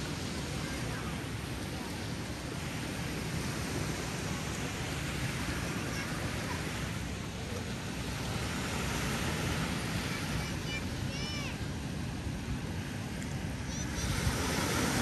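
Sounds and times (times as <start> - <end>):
ocean waves on beach: 0.0 - 15.0.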